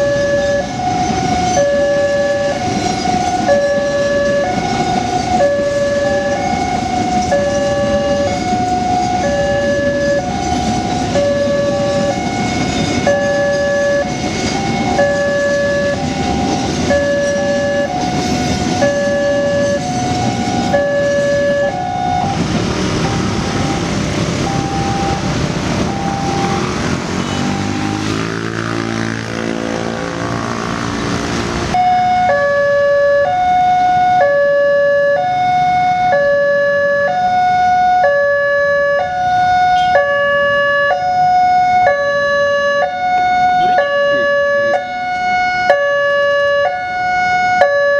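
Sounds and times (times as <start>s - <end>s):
level crossing two-tone siren: 0.0s - 30.4s, 31.7s - 47.9s
passing train rolling: 0.0s - 47.7s.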